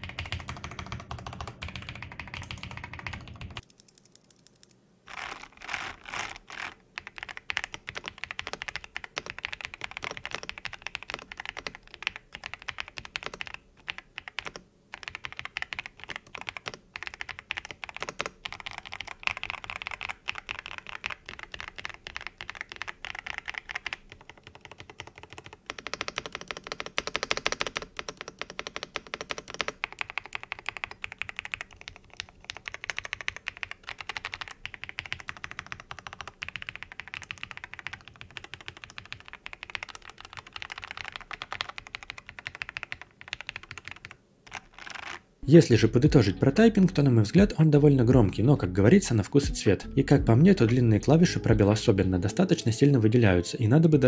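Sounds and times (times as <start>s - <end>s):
typing on mechanical keyboard: 0.0s - 45.2s.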